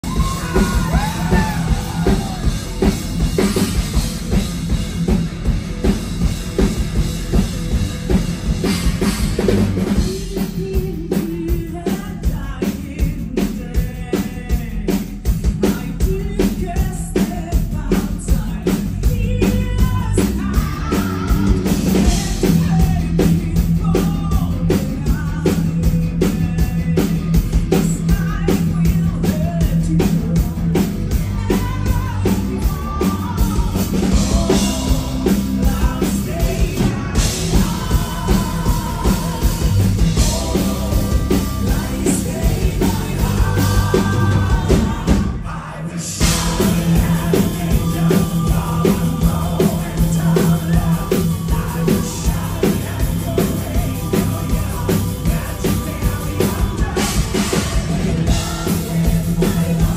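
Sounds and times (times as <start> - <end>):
woman singing: 0.0 - 3.0, 9.9 - 59.9
man singing: 0.0 - 3.7, 9.0 - 59.9
fast drum beat: 0.0 - 59.9
live metal band playing: 0.0 - 59.9.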